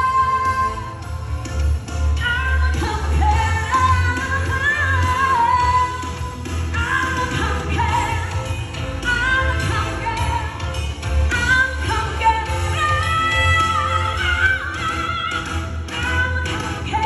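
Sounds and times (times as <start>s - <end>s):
pop song with singing: 0.0s - 17.0s.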